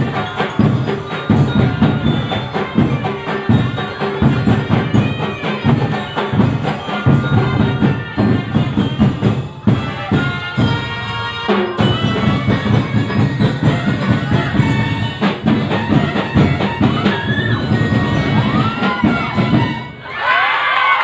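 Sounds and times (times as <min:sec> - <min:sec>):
held melodic notes: 0:00.0 - 0:20.0
drums beating driving rhythm: 0:00.0 - 0:20.2.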